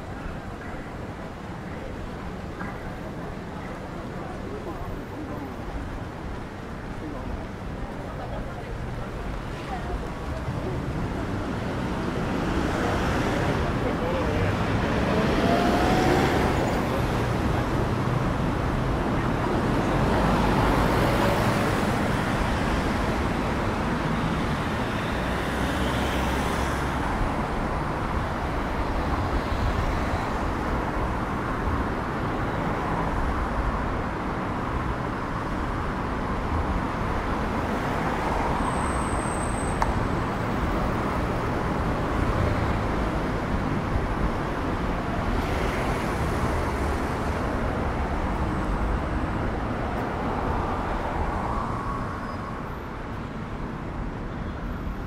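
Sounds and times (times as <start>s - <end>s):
cars passing by: 0.0s - 55.0s
road traffic noise: 0.0s - 55.0s.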